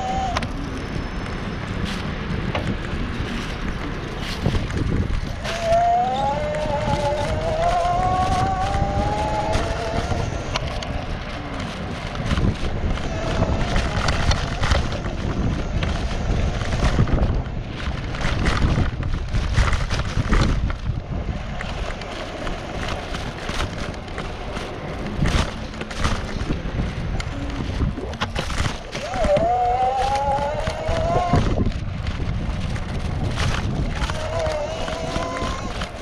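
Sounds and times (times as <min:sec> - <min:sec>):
rumble over brick paving: 0:00.0 - 0:36.0
wind buffeting microphone: 0:00.0 - 0:36.0.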